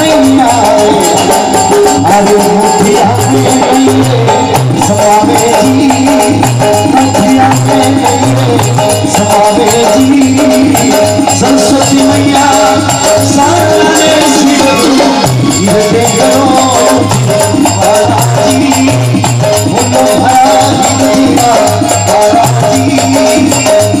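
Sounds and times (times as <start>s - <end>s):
held melody line: 0.0s - 24.0s
jingling hand percussion: 0.0s - 24.0s.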